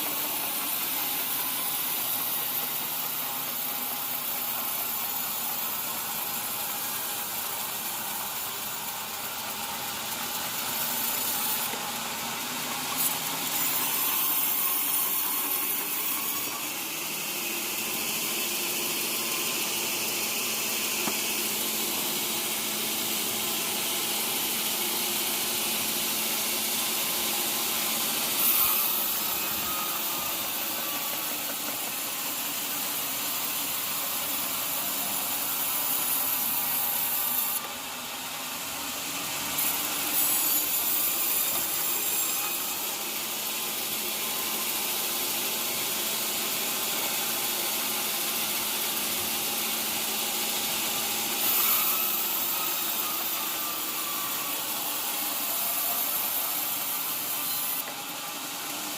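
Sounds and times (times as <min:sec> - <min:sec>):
saw cutting through wood: 0:00.0 - 0:58.9.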